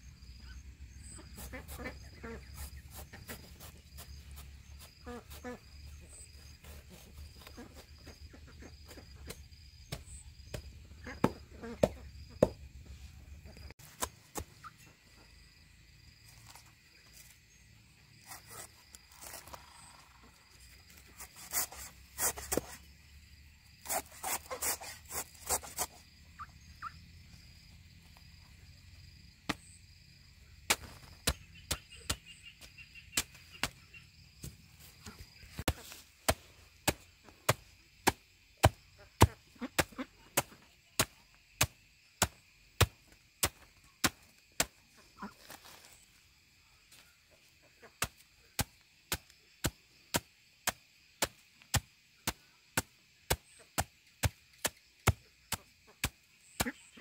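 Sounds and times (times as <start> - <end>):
insects buzzing: 0.0 - 57.0.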